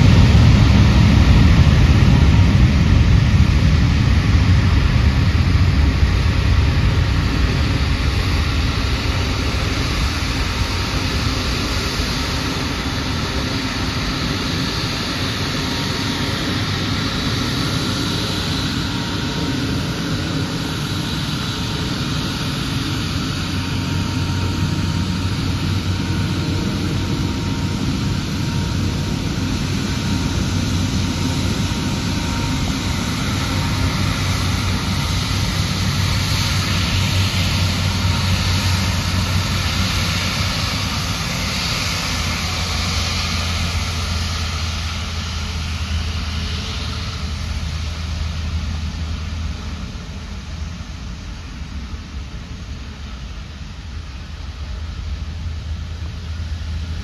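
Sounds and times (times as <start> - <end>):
jet engine whine: 0.0 - 57.0
low jet rumble: 0.0 - 57.0.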